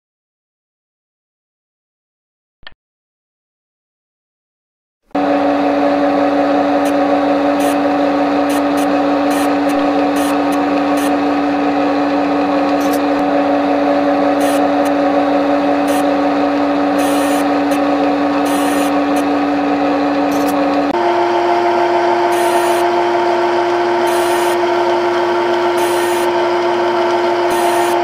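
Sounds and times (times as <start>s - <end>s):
synthesized machine hum: 5.2s - 28.0s.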